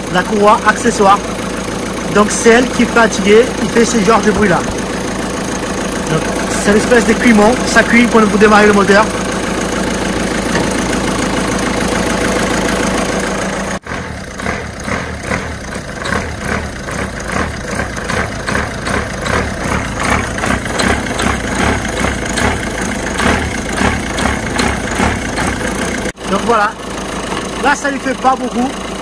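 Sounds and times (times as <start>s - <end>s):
car engine idling: 0.0s - 29.0s
drive belt squeaking: 0.0s - 29.0s.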